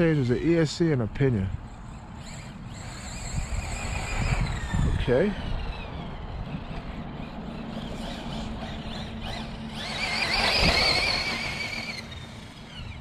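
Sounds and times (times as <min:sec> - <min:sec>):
electric rc car motor whine: 0:01.6 - 0:13.0.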